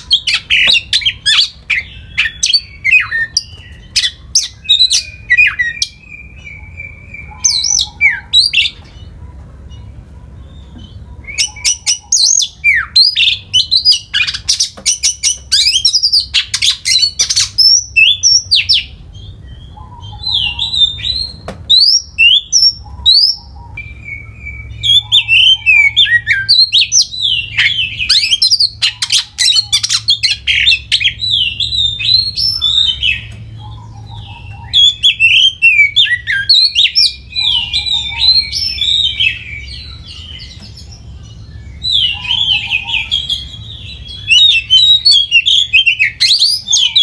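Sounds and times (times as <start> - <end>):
songbird singing: 0.0 - 47.0
steady low hum: 0.0 - 47.0.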